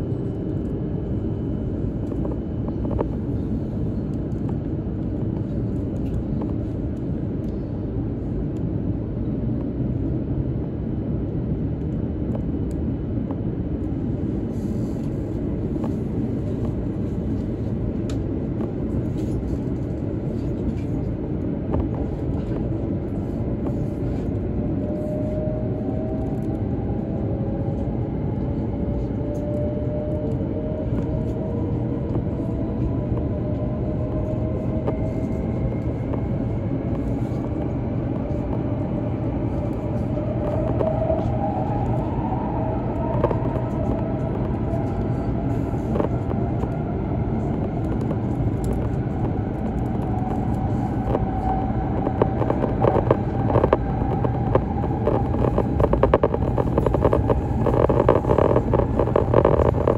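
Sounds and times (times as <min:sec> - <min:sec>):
faint motor whine: 0:00.0 - 0:59.9
train interior rumble: 0:00.0 - 0:59.9.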